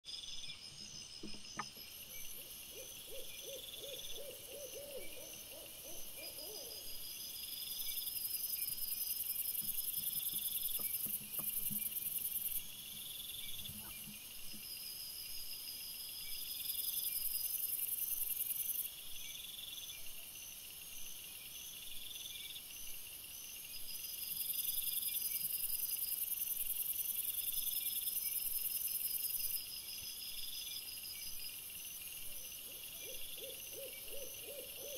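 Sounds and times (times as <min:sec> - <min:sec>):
crickets chirping: 0:00.1 - 0:34.9
low rapidly pulsed insect call: 0:00.1 - 0:34.9.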